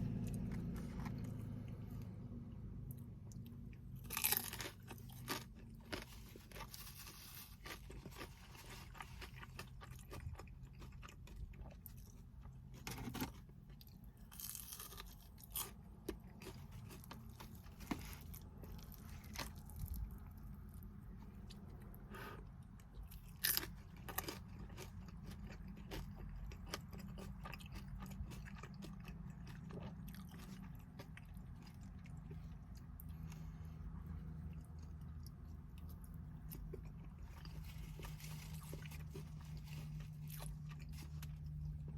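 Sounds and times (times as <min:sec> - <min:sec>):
chewing and crunching food: 0:00.0 - 0:41.9
steady low hum: 0:00.0 - 0:41.9.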